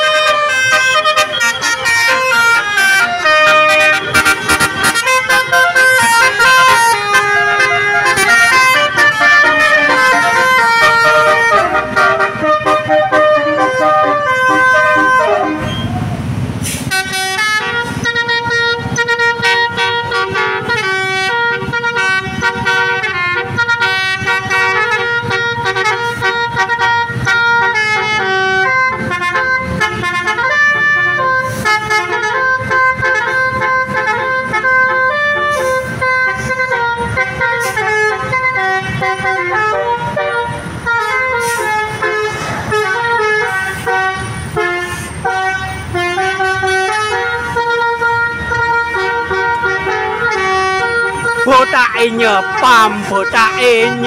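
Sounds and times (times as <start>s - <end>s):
bus musical horns: 0.0s - 54.0s.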